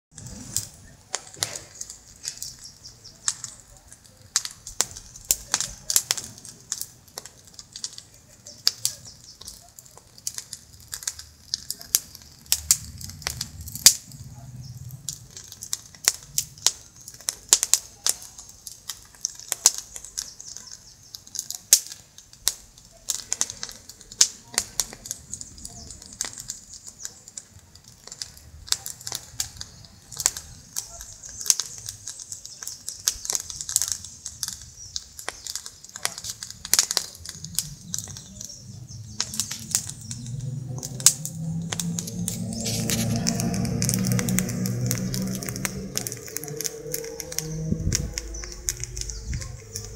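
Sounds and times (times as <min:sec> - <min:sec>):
wood fire crackling and popping: 0:00.1 - 0:49.9.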